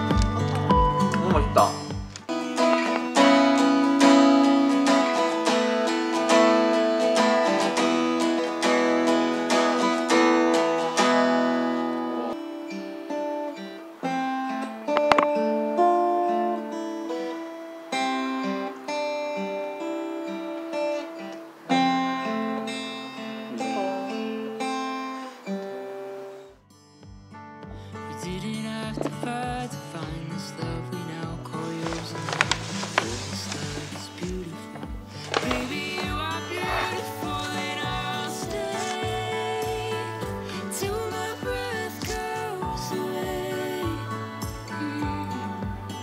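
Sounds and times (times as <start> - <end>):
acoustic guitar playing: 0.0 - 46.0.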